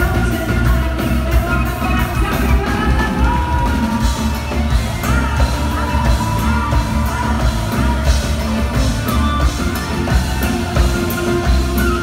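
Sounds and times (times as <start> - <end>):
heavy drum bass beat: 0.0 - 12.0
live band music: 0.0 - 12.0
woman singing: 0.0 - 12.0.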